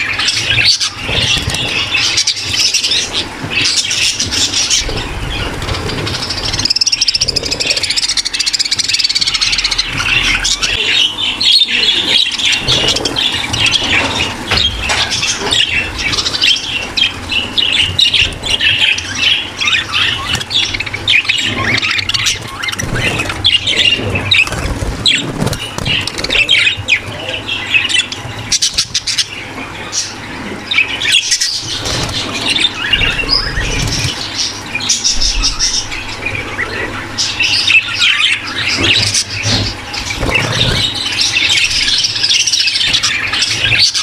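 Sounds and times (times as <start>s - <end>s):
budgerigars chattering and chirping: 0.0s - 44.0s.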